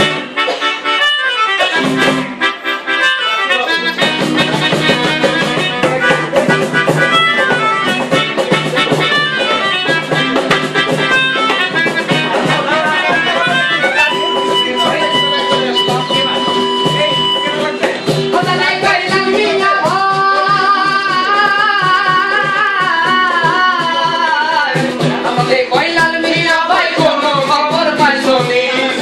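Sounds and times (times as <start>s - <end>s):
melodica melody: 0.0s - 29.0s
strummed acoustic guitar: 0.0s - 29.0s.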